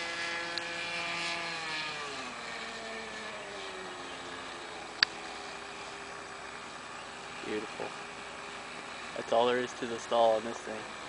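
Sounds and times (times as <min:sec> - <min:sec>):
model airplane engine droning: 0:00.0 - 0:11.0.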